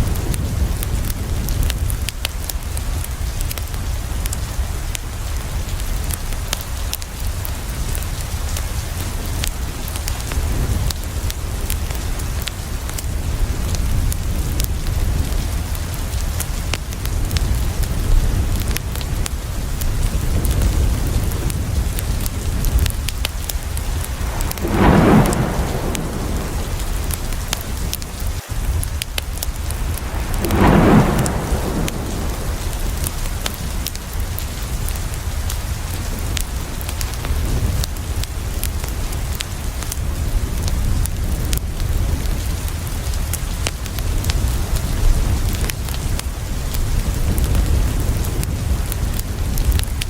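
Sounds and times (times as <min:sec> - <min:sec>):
heavy rain: 0:00.0 - 0:50.0.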